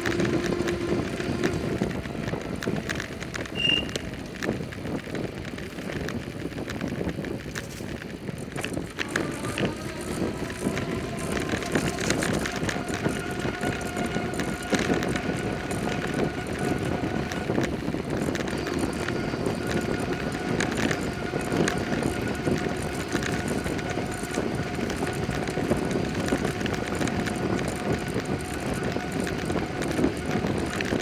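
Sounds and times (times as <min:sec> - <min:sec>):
bicycle tyre noise on road: 0:00.0 - 0:31.0
bike rattles and knocks: 0:00.0 - 0:31.0.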